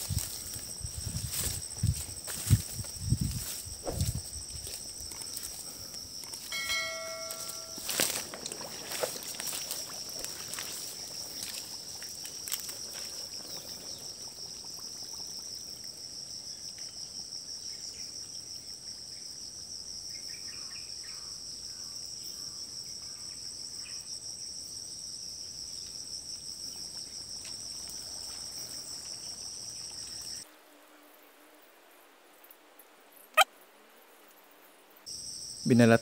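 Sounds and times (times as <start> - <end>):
insects chirping: 0.0 - 36.0.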